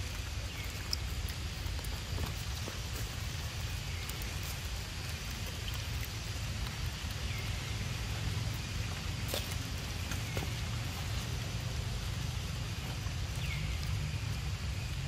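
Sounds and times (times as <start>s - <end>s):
drips ticking: 0.0s - 14.8s
rain on stone paving: 0.0s - 15.0s.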